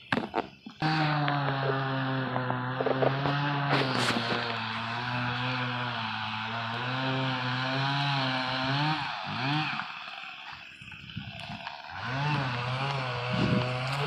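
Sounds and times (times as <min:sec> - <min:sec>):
chainsaw running: 0:00.8 - 0:14.0.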